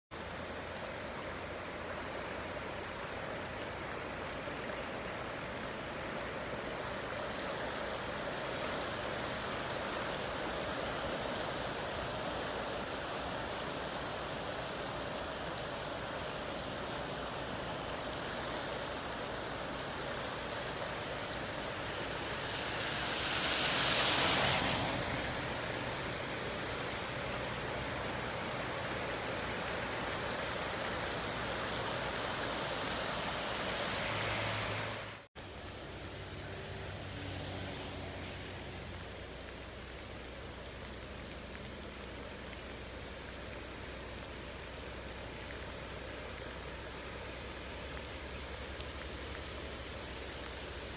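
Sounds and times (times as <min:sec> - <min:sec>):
floodwater rushing: 0:00.1 - 0:50.9.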